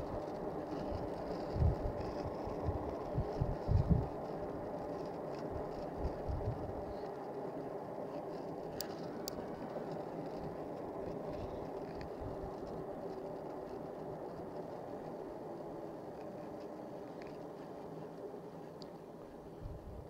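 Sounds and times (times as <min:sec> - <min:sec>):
wind buffeting microphone: 0:00.0 - 0:08.0, 0:08.6 - 0:16.2, 0:19.3 - 0:20.0
bike running drone: 0:00.0 - 0:20.0.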